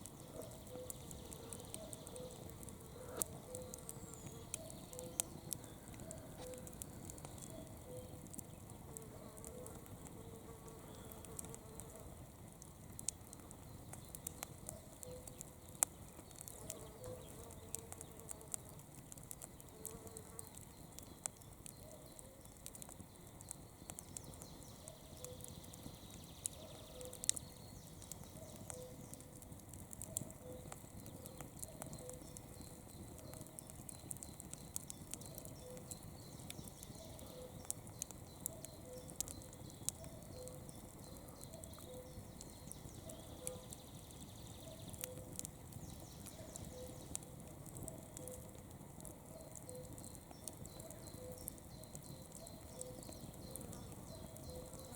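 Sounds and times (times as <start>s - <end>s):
campfire crackling and popping: 0.0s - 54.9s
low rumble of flame: 0.0s - 54.9s.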